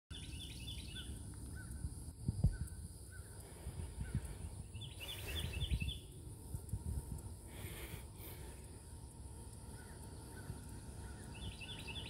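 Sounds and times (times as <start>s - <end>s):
birds chirping: 0.1s - 12.0s
wind buffeting microphone: 0.1s - 12.0s.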